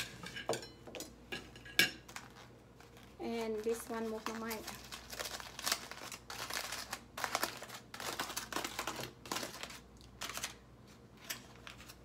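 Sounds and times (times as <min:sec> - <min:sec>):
aluminium foil crinkling: 0:02.0 - 0:12.0.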